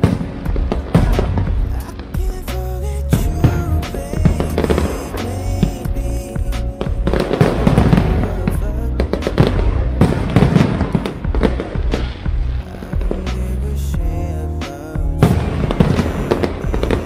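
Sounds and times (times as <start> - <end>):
fireworks bangs: 0.0 - 13.4, 14.7 - 17.0
music with heavy bass: 0.0 - 17.0.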